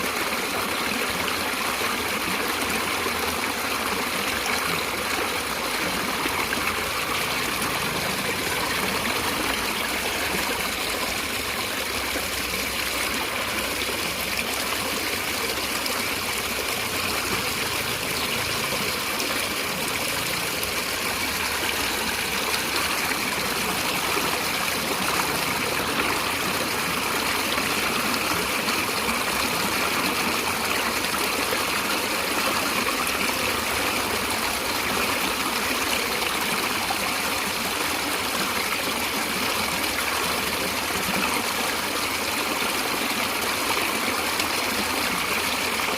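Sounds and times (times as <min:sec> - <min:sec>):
stream water flowing: 0:00.0 - 0:45.9.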